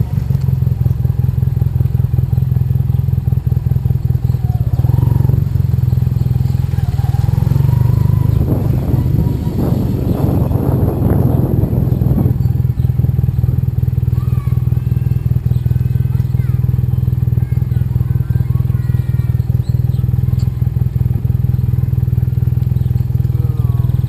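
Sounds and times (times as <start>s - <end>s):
motorcycle engine running at low revs: 0.0s - 24.0s.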